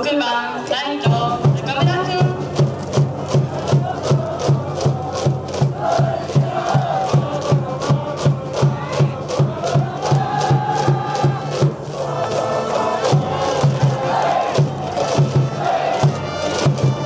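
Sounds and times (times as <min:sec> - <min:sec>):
band playing marching melody: 0:01.0 - 0:17.0
steady drum beat: 0:01.0 - 0:17.0
crowd chanting: 0:02.5 - 0:17.0.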